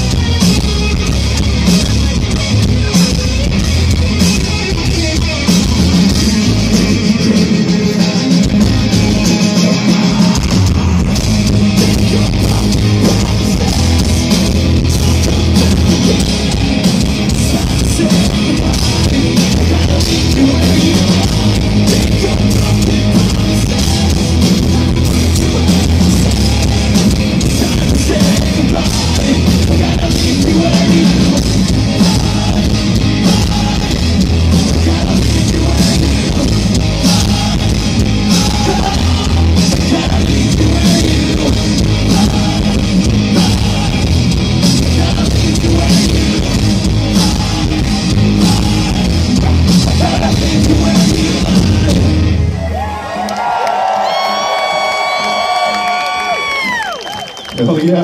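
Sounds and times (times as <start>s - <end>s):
distorted electric guitars: 0.0s - 58.0s
drum kit: 0.0s - 58.0s.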